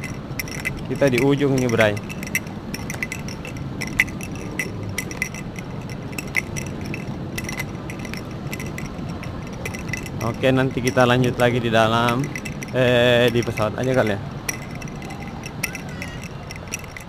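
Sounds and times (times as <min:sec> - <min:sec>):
metallic clinking and jangling: 0:00.0 - 0:17.0.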